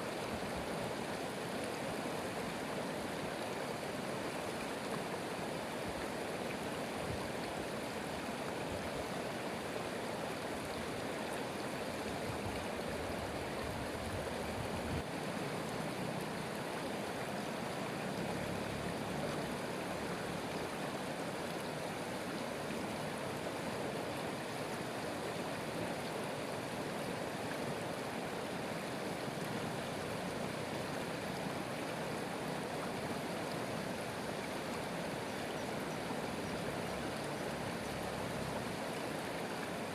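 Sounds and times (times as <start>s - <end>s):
water rushing in a stream: 0.0s - 39.9s.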